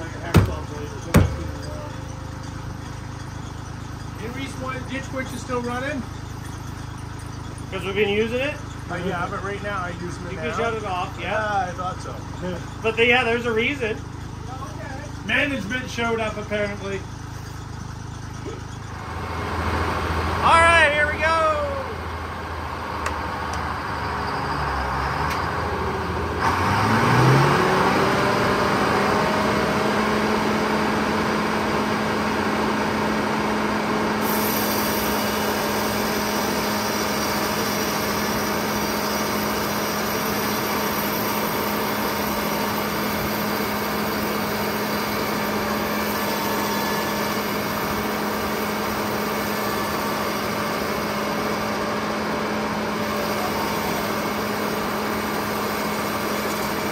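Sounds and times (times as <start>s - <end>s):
sawmill engine revving: 0.0s - 56.9s.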